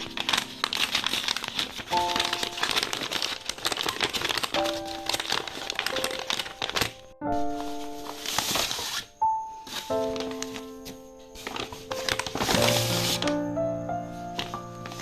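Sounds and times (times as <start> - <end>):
rapid crinkling and rustling: 0.0 - 13.4, 14.4 - 15.0
soft background music: 0.0 - 15.0.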